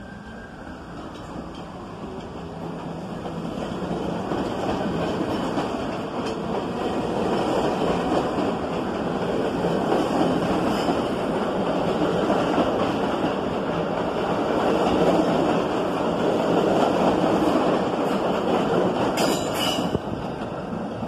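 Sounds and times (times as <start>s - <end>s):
subway train wheels rumbling on rail: 0.0s - 21.0s.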